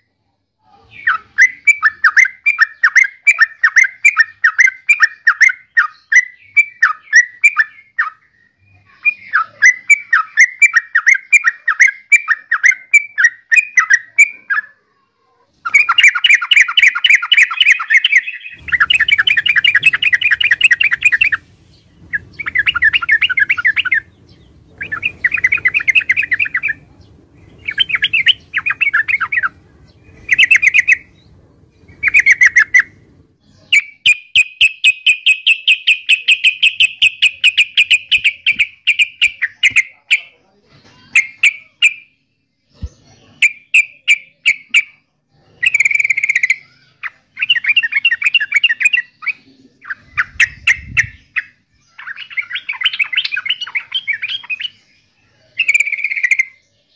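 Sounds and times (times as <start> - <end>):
bird chattering song: 0.0 - 56.9.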